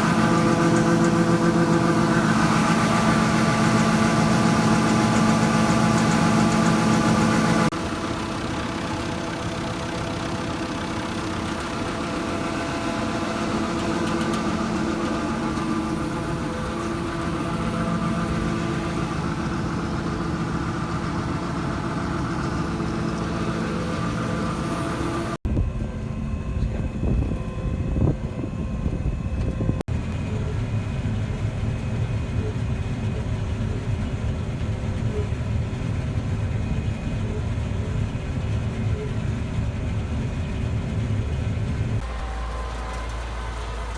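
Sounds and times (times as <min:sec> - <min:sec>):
combine harvester engine running: 0:00.0 - 0:43.9.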